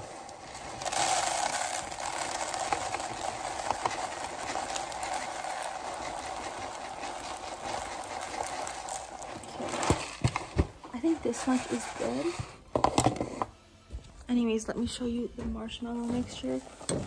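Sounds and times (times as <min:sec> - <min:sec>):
cereal pouring into plastic container: 0:00.0 - 0:13.2, 0:16.0 - 0:17.0.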